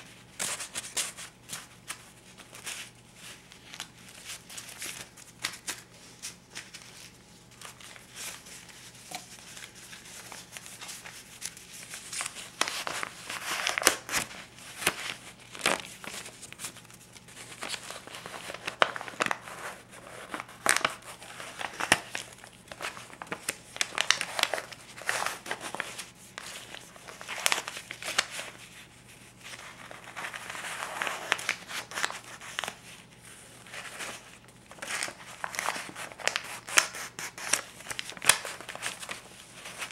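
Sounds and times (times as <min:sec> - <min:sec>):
banknotes snapping and crinkling: 0:00.3 - 0:28.7, 0:29.4 - 0:39.9.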